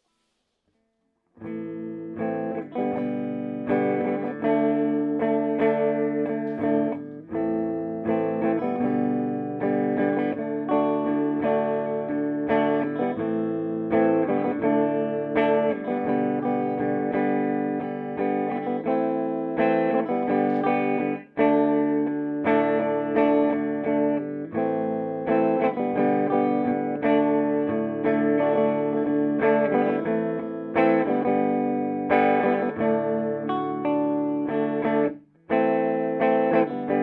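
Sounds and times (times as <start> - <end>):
clean electric guitar: 1.4 - 37.0.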